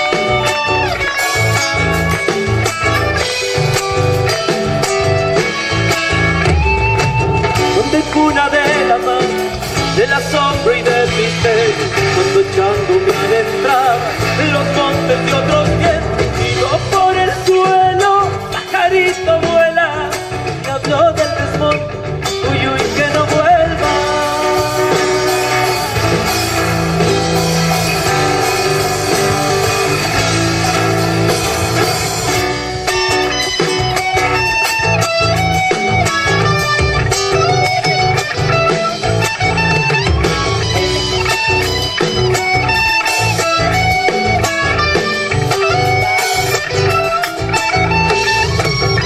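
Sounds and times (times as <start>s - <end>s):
folk guitar: 0.0s - 49.0s
sustained bass notes: 0.0s - 49.0s.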